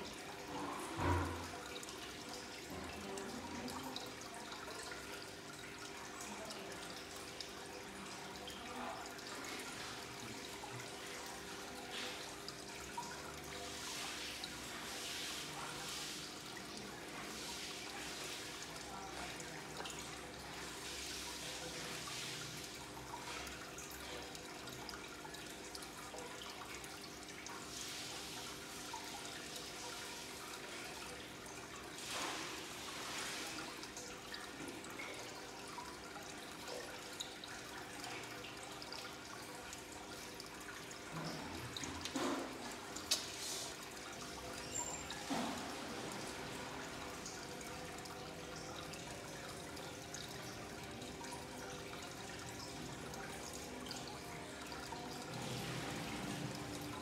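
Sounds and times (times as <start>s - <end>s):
aquarium water bubbling: 0.0s - 57.0s.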